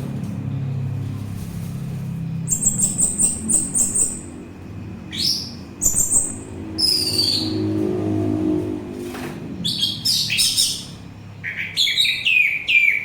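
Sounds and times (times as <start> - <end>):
low steady rumble: 0.0 - 11.4.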